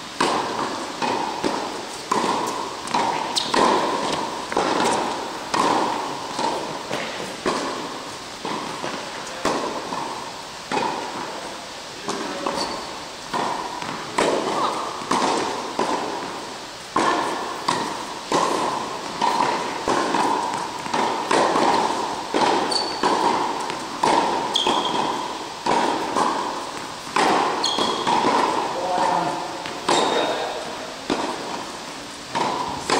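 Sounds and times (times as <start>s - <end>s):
racket striking tennis ball: 0.2s - 11.4s, 12.0s - 32.9s
tennis ball bouncing: 0.2s - 32.9s.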